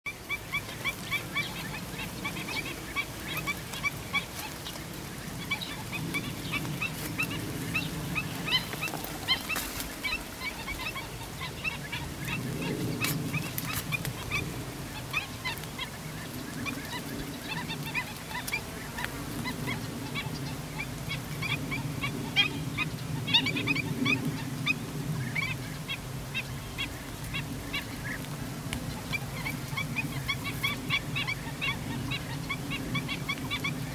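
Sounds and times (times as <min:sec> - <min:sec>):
low chorus of animal calls: 0:00.1 - 0:33.9.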